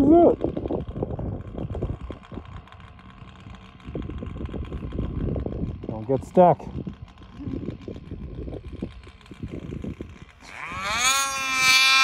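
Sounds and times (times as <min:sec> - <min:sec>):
snowmobile engine revving: 0:02.0 - 0:12.0.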